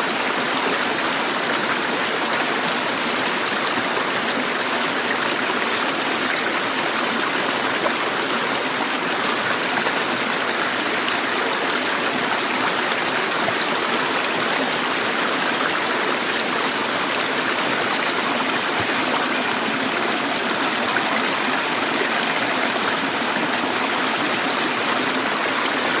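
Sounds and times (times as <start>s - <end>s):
river water running: 0.0s - 26.0s.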